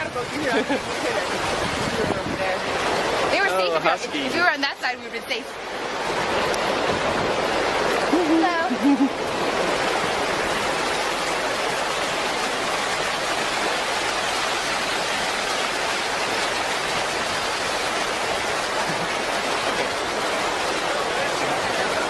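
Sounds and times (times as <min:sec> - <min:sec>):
flood water rushing: 0:00.0 - 0:22.0.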